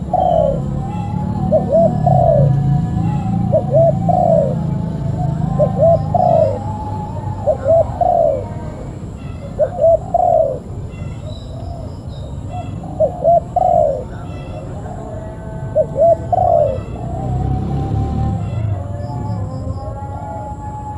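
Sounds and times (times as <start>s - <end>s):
dove cooing: 0.0s - 20.9s.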